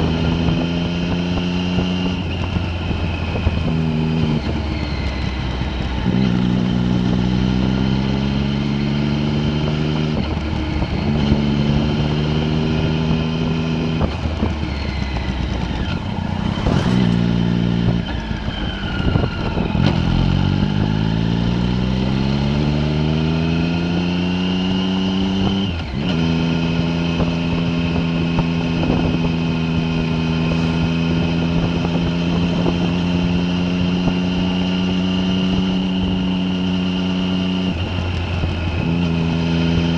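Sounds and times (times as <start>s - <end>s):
vehicle engine while driving: 0.0s - 39.9s.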